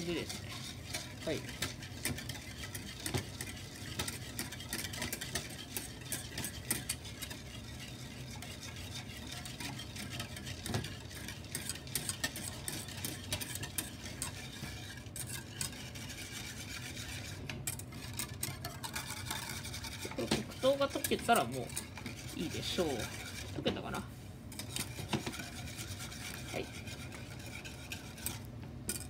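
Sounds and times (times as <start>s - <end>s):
whisk scraping a saucepan: 0.0s - 29.0s.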